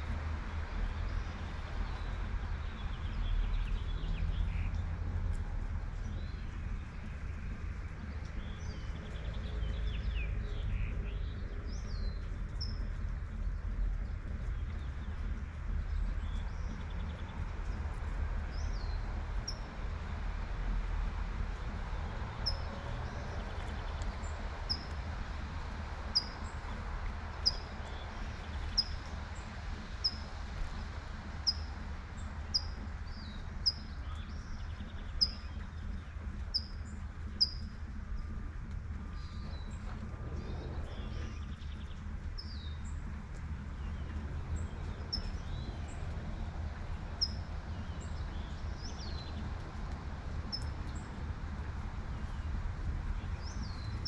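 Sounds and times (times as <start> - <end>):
light rain: 0.0 - 54.0
low city rumble: 0.0 - 54.0.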